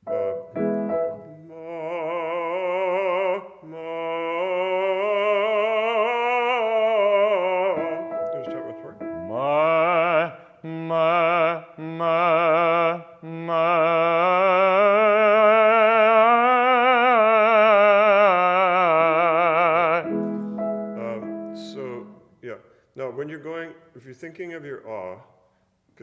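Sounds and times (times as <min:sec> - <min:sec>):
person singing with vibrato: 0:00.0 - 0:22.3.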